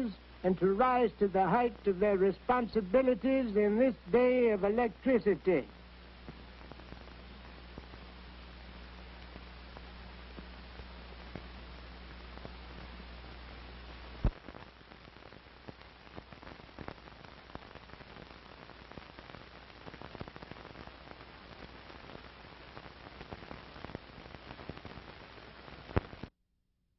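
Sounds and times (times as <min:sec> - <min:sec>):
crackles and pops: 0:00.0 - 0:26.3
film soundtrack hiss: 0:00.0 - 0:26.3.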